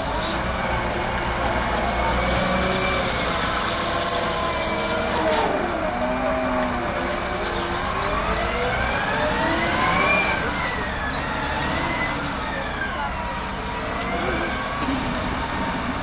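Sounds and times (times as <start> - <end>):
snow blower engine running: 0.1 - 16.0.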